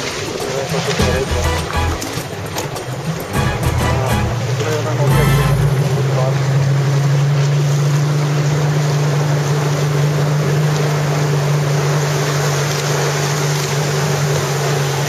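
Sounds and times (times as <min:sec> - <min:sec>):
boat engine droning: 0:00.0 - 0:15.0
water rushing: 0:00.0 - 0:15.0.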